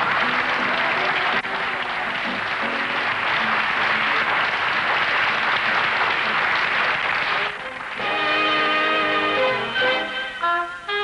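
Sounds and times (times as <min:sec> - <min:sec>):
large audience applauding: 0:00.0 - 0:10.1
music playing: 0:00.0 - 0:11.0.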